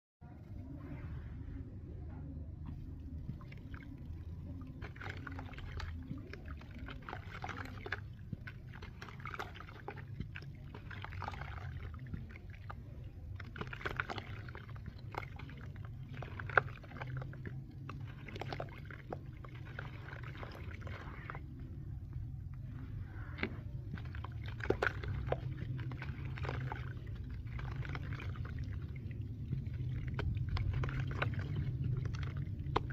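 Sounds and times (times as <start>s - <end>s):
steady low hum: 0.2s - 32.9s
trickling grit: 3.2s - 32.9s.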